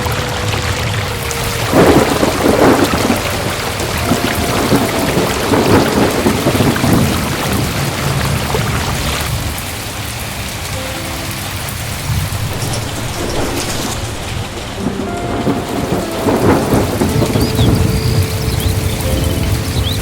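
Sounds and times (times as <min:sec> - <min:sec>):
heavy rain pouring: 0:00.0 - 0:20.0
rolling thunder rumble: 0:00.0 - 0:20.0.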